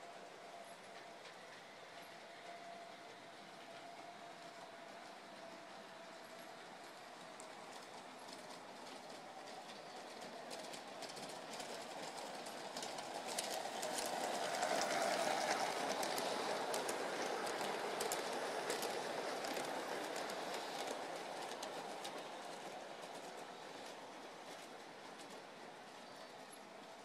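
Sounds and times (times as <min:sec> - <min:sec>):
model train rolling rumble: 0:00.0 - 0:27.0
wheels clicking over rail joints: 0:00.0 - 0:27.0.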